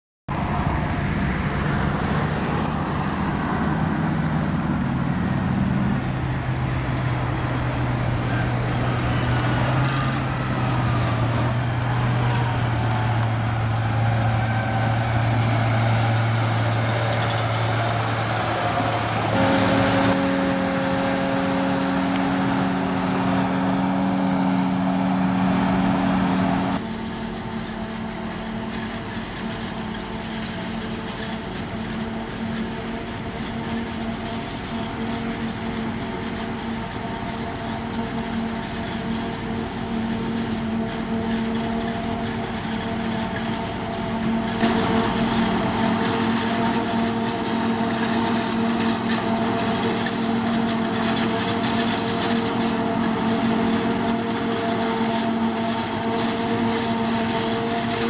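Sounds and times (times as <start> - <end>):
heavy diesel engine humming: 0.3 - 58.0
higher machine hum with tones: 6.3 - 29.9, 31.6 - 58.0.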